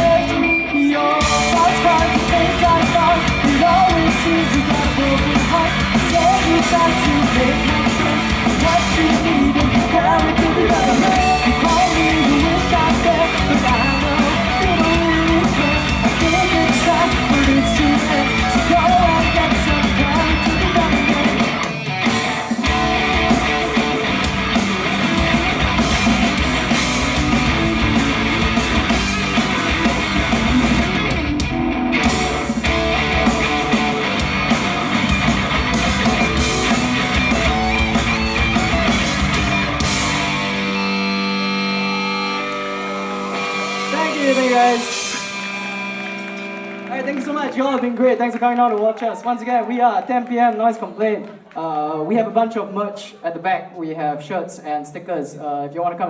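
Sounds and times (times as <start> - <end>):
live rock band instrumental: 0.0 - 47.3.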